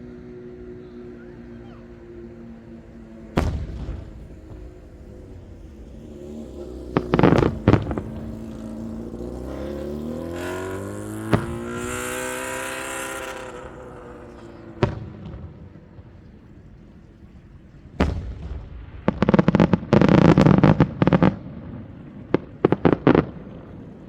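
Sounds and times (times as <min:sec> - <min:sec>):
fireworks booming: 0:02.6 - 0:16.8, 0:17.8 - 0:24.0.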